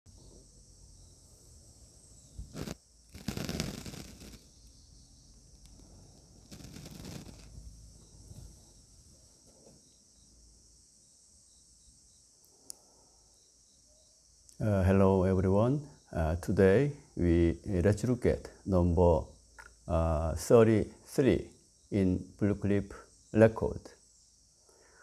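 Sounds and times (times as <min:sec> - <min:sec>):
crickets chirring: 0:00.1 - 0:25.0.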